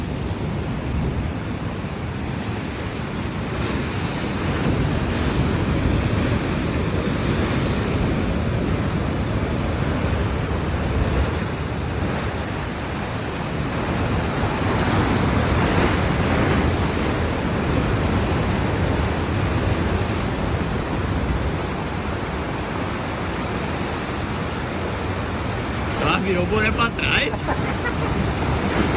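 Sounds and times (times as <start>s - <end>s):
sea surf rushing: 0.0s - 28.9s
wind buffeting microphone: 0.0s - 28.9s.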